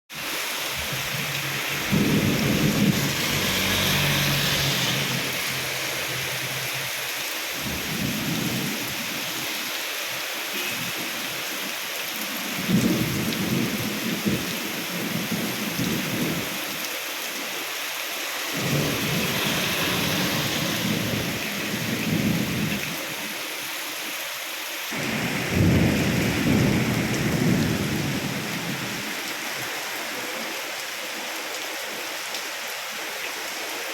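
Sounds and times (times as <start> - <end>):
steady rain hissing: 0.1 - 33.9.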